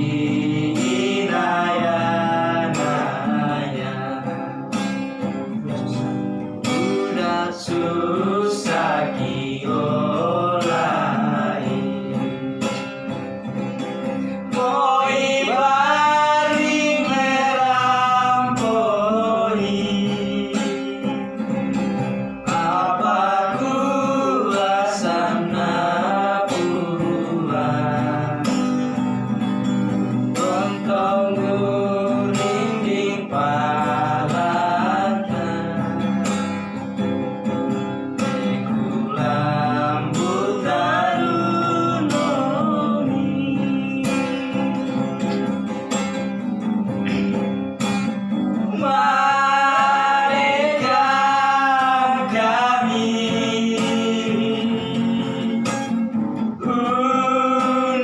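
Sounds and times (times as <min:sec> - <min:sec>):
person singing: 0:00.0 - 0:13.4, 0:14.1 - 0:29.3, 0:30.2 - 0:36.5, 0:38.2 - 0:45.6, 0:48.5 - 0:58.0
strummed acoustic guitar: 0:00.0 - 0:58.0.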